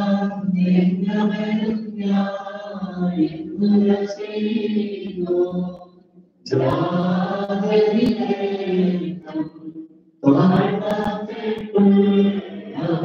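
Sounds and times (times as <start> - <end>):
voices chanting a hymn: 0.0 - 13.0.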